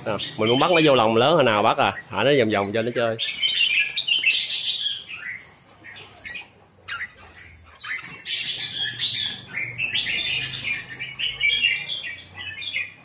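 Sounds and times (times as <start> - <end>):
bird chirping and warbling: 0.0 - 13.0.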